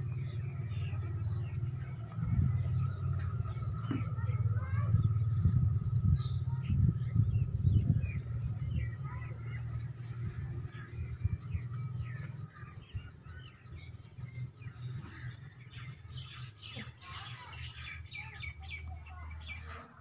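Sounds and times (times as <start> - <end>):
steady low rumble: 0.0 - 16.8
small birds chirping: 0.0 - 20.0.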